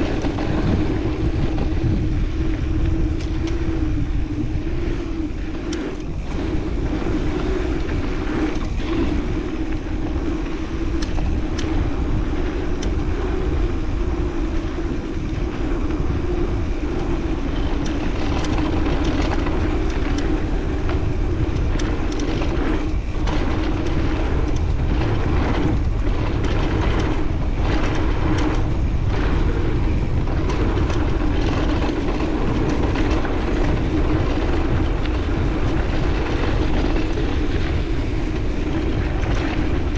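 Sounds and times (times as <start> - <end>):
bike rattles and knocks over bumps: 0.0 - 39.9
mountain bike rolling buzz: 0.0 - 39.9
wind on microphone: 0.0 - 39.9.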